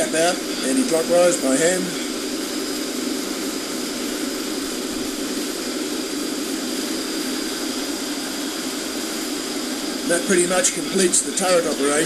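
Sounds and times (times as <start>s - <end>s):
lathe whirring: 0.0s - 12.0s.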